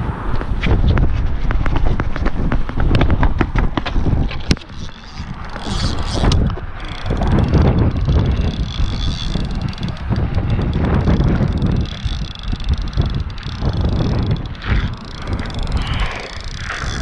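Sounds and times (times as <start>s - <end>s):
wind buffeting microphone: 0.0s - 17.0s
sharp clicks and knocks: 0.4s - 17.0s.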